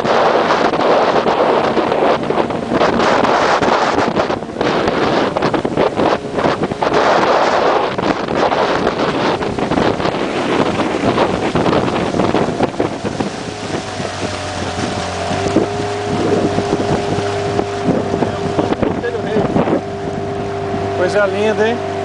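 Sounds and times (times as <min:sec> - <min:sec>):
boat motor running: 0:00.0 - 0:22.0
water rushing past hull: 0:00.0 - 0:22.0
wind buffeting microphone: 0:00.0 - 0:22.0.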